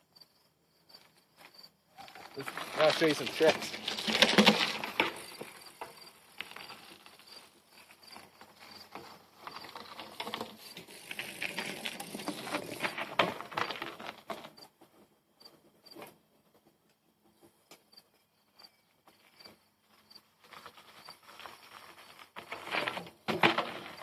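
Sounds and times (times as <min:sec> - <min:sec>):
bike tyres rolling on ground: 0:01.0 - 0:17.5, 0:19.1 - 0:24.0.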